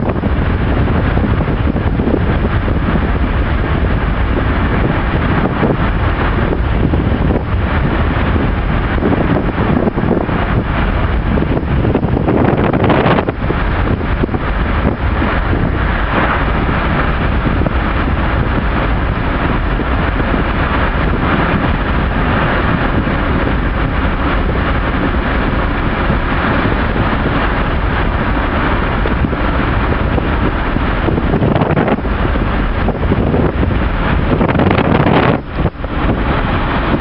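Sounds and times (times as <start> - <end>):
road noise inside moving car: 0.0 - 37.0.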